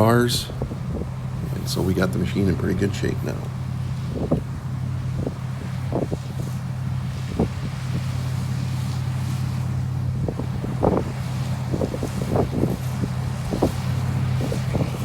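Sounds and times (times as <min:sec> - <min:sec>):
combine harvester engine drone: 0:00.0 - 0:15.0
wind buffeting microphone: 0:00.0 - 0:15.0.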